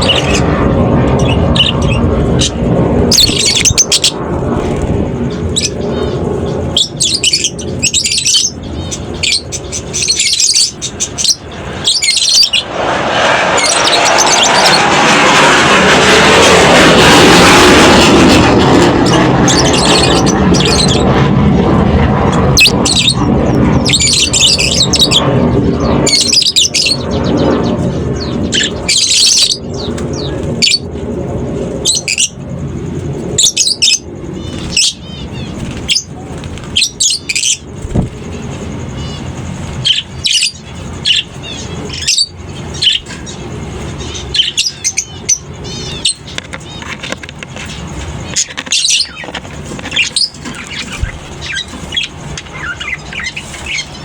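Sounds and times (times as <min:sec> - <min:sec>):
lovebirds chirping and squawking: 0:00.0 - 0:54.0
low background rumble: 0:00.0 - 0:54.0.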